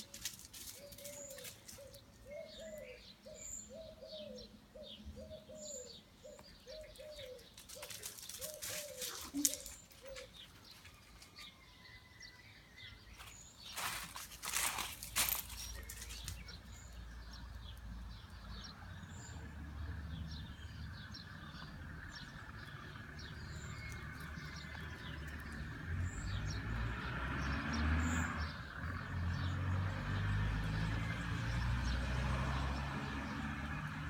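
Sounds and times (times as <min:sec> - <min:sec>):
small songbirds chirping: 0:00.0 - 0:34.0.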